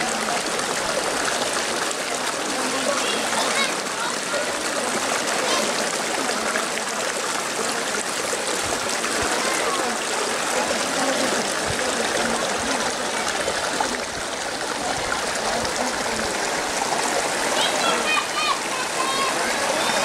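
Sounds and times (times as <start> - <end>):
faint voices: 0.0 - 20.0
running water rushing: 0.0 - 20.0.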